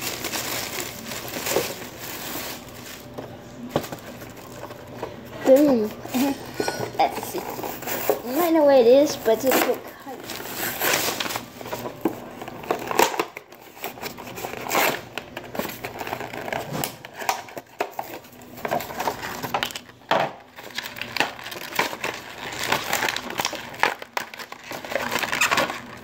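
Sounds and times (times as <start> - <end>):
packaging tearing and crinkling: 0.0 - 3.2, 7.1 - 26.0.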